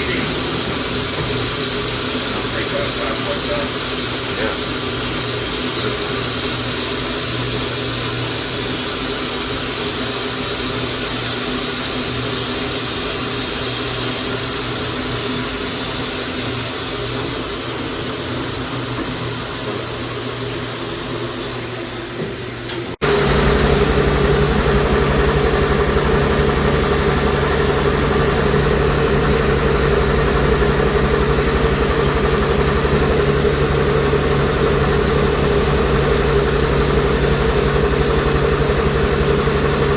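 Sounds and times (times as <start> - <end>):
machine mechanical hum: 0.0 - 39.9.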